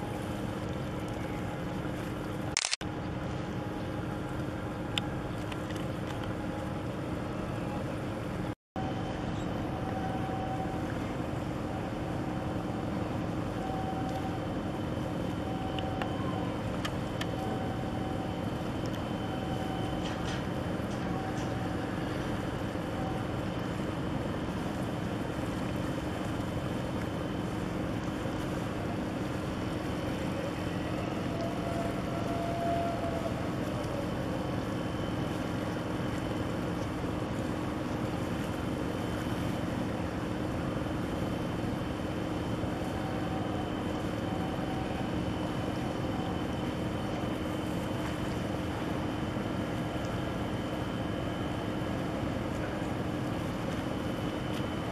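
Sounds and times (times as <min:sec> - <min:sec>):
constant hum: 0:00.0 - 0:54.9
ship engines droning: 0:00.0 - 0:54.9.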